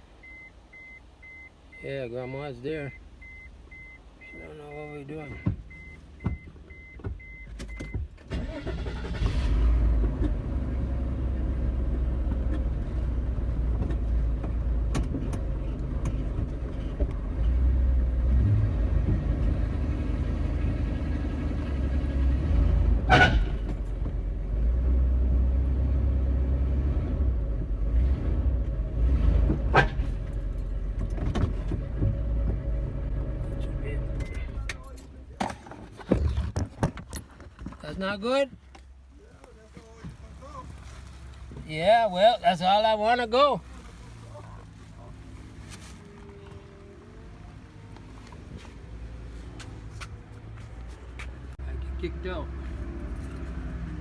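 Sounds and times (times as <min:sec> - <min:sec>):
van engine starting and running: 0:00.0 - 0:54.0.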